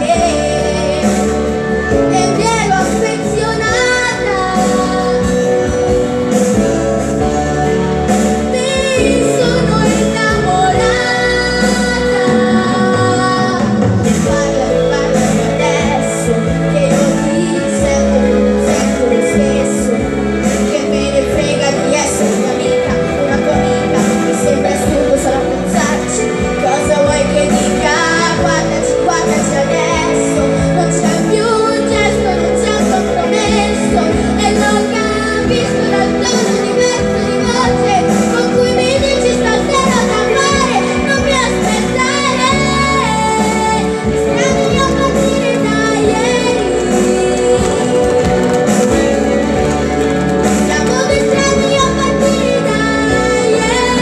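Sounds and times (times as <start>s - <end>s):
boy singing into a microphone: 0.0s - 54.0s
instrumental backing music: 0.0s - 54.0s.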